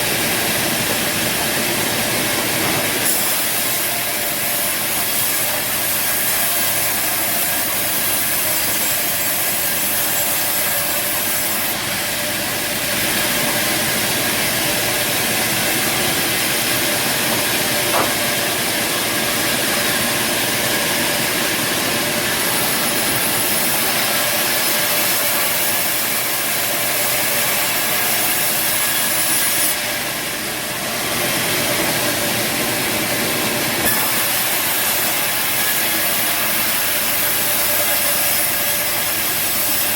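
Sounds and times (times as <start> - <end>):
band saw cutting timber: 0.0 - 39.9.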